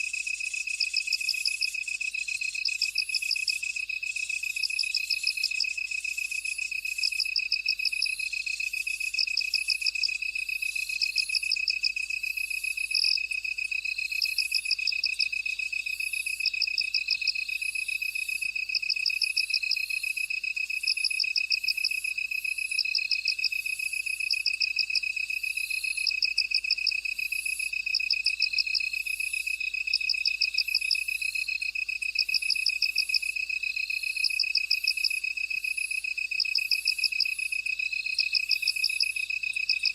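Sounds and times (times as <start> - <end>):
insect rapid chirps: 0.0 - 39.9.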